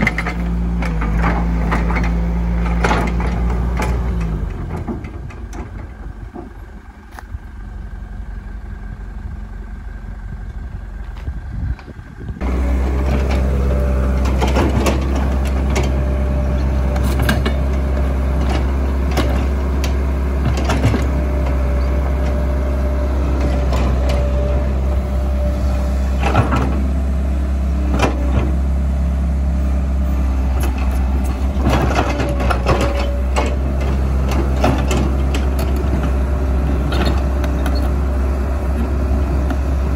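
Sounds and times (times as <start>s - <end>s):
metal clanks of crawler track: 0.0s - 8.5s, 10.4s - 39.9s
excavator diesel engine droning: 0.0s - 39.9s.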